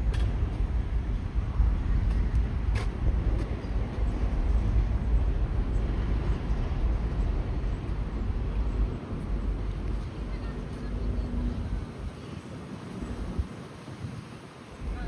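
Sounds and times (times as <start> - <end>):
low rumble of city noise: 0.0 - 15.0.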